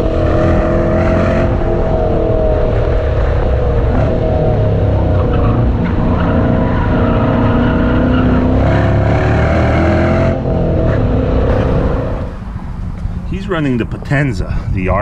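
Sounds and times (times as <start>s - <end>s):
car engine at high revs: 0.0s - 13.3s
tires squealing: 0.0s - 14.1s.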